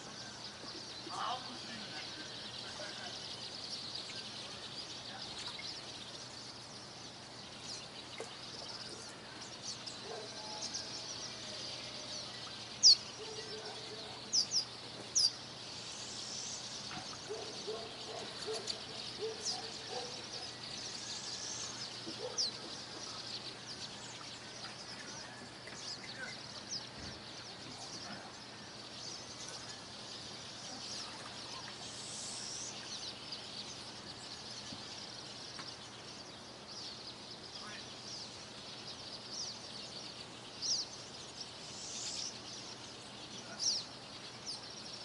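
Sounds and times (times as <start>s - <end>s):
distant bird chorus: 0.0s - 45.0s
loud bird chirps: 0.0s - 45.0s.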